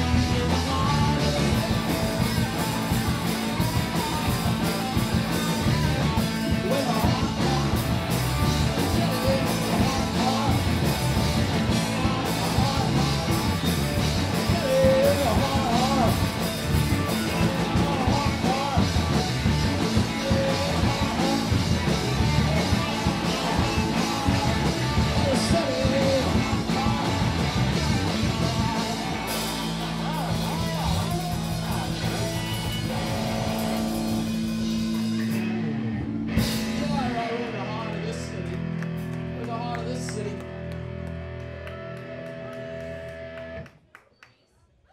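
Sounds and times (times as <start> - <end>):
drum kit: 0.0 - 40.2
live rock band playing: 0.0 - 43.6.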